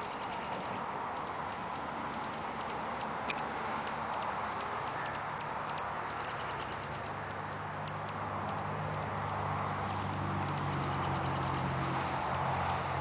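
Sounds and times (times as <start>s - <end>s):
hummingbird chip clicks: 0.0s - 13.0s.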